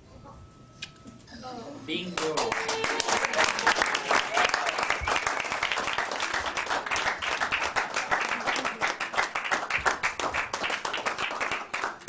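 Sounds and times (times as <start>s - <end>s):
crowd applauding: 2.2s - 12.0s.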